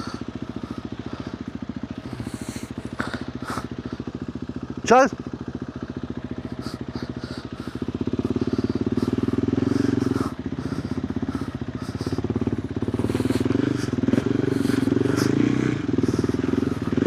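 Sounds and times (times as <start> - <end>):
motorcycle engine pulling at low revs: 0.0 - 17.0.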